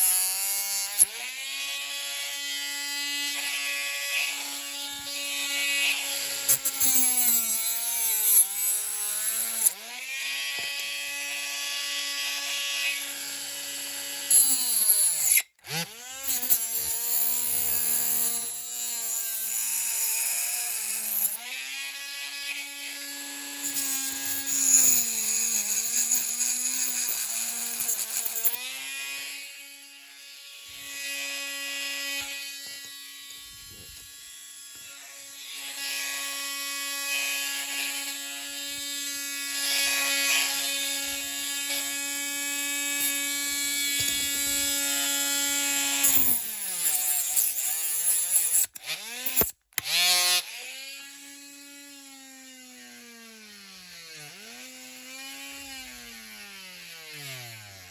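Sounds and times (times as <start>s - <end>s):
rotary tool cutting plastic: 0.0s - 57.9s.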